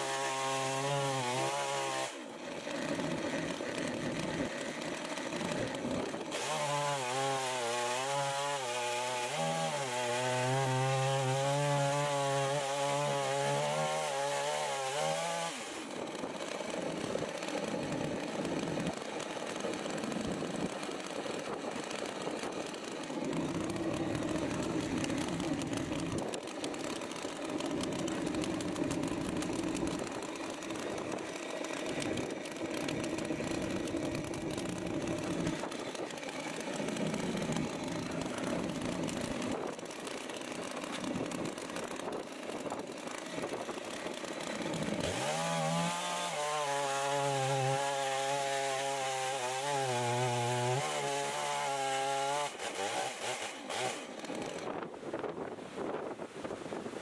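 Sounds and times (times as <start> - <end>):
chainsaw cutting through log: 0.0 - 56.0.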